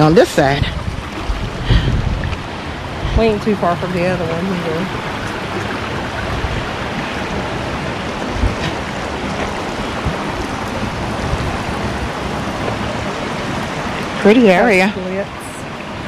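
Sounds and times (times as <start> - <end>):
creek water running over rocks: 0.0 - 16.0
wind buffeting the microphone: 0.0 - 16.0.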